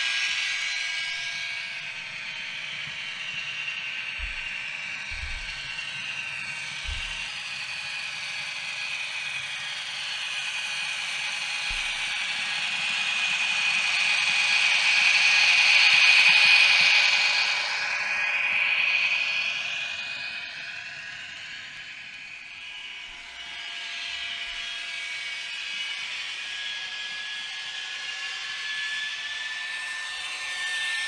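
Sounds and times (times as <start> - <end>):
model locomotive whine: 0.0 - 31.0.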